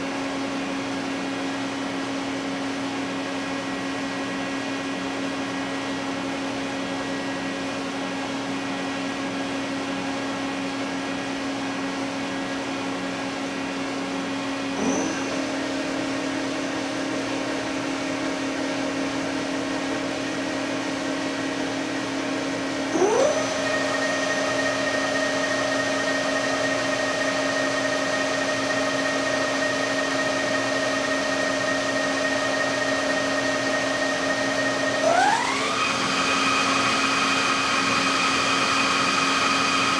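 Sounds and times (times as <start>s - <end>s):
lathe motor whine and hum: 0.0s - 39.9s.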